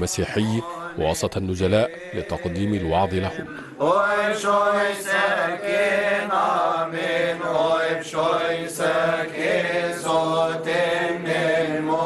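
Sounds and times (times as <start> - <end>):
voices chanting ornamented melody: 0.0 - 12.0.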